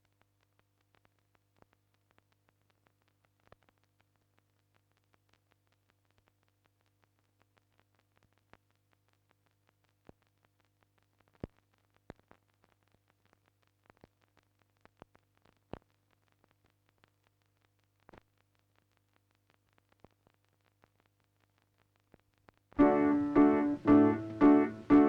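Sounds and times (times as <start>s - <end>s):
faint clicks and crackle: 0.0s - 25.0s.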